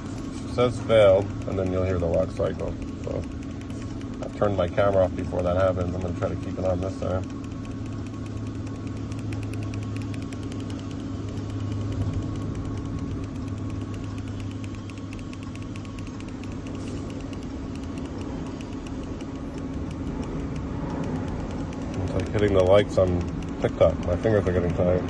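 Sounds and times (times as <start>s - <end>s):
low hum in truck cab: 0.0s - 25.0s
key fob button clicking: 0.9s - 24.8s.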